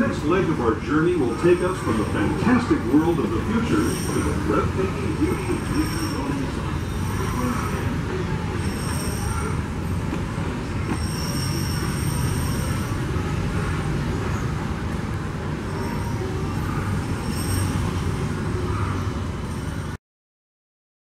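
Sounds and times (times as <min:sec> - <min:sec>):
train wheels rumbling on rails: 0:00.0 - 0:20.0
high wheel squealing: 0:01.0 - 0:14.7, 0:15.5 - 0:19.9.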